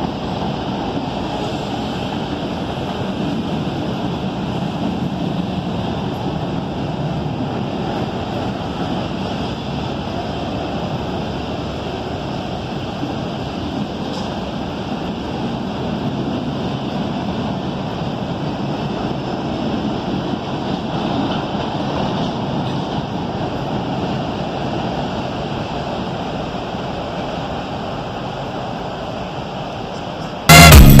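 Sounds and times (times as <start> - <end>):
distant freight train rumbling: 0.0 - 30.9.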